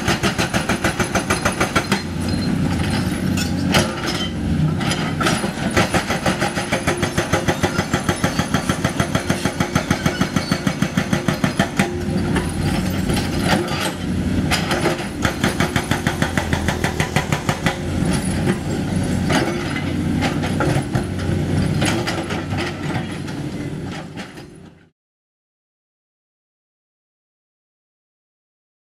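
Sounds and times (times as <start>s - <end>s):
diesel engines running: 0.0s - 24.7s.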